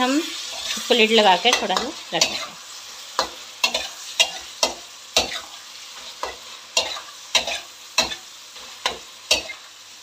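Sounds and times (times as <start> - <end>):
frying sizzle: 0.0 - 10.0
spatula scraping a pan: 0.3 - 9.7.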